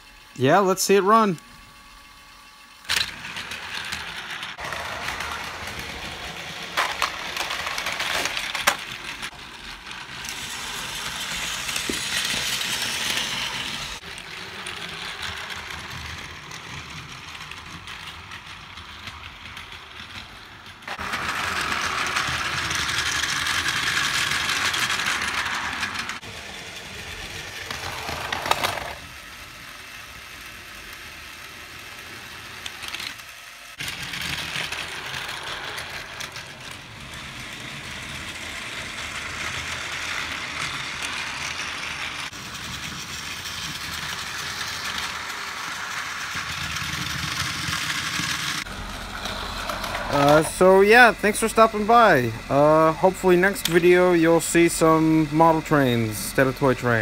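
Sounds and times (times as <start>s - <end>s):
toy train motor whirring: 0.0s - 57.0s
toy train wheels rattling: 0.0s - 57.0s.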